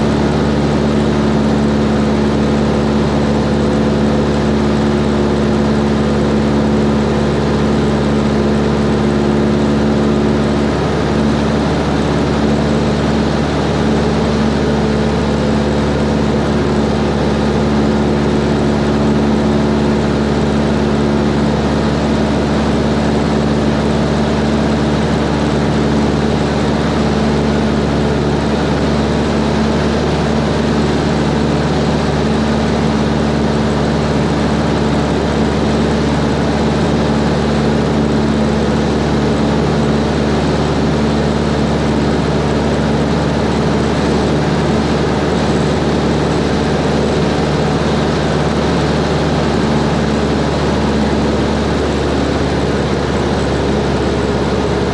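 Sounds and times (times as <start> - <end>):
propeller plane engine drone: 0.0 - 54.9.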